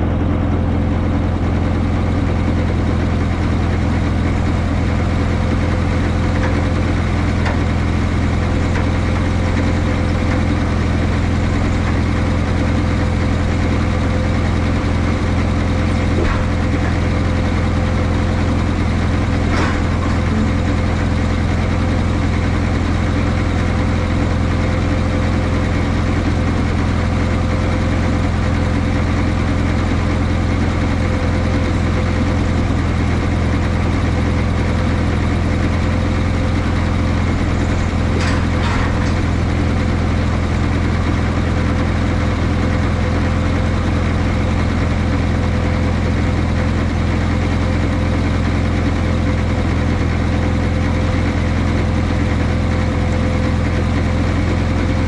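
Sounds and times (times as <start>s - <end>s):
engine idling with thin whine: 0.0s - 55.0s.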